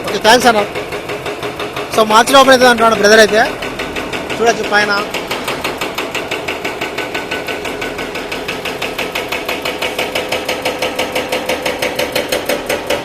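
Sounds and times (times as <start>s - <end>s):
engine running: 0.0s - 13.0s
jackhammer hammering: 0.0s - 13.0s.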